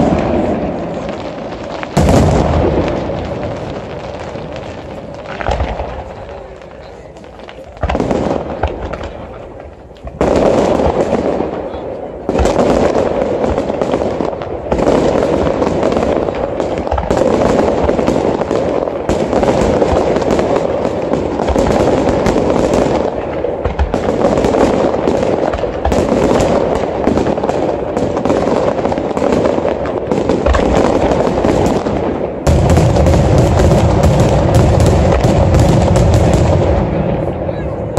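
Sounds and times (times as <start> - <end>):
deep firework bangs: 0.0 - 37.9
fireworks bursting and crackling: 0.0 - 37.9.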